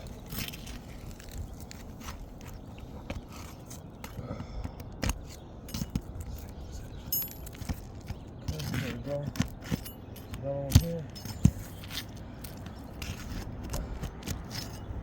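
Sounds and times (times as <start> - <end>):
nails scraping out of shingles: 0.0 - 15.0.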